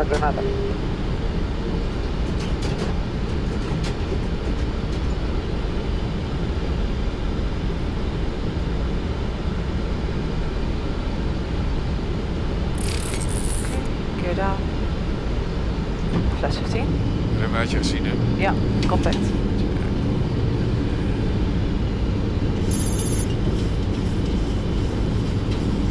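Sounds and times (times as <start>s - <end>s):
cockpit airflow and engine noise: 0.0s - 25.9s.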